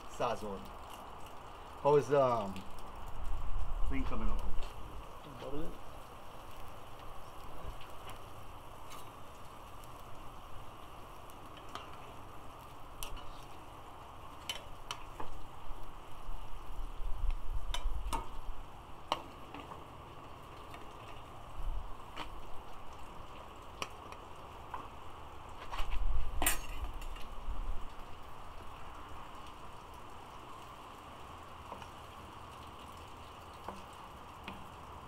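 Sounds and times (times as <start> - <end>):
pot boiling with bubbling hiss: 0.0 - 35.0.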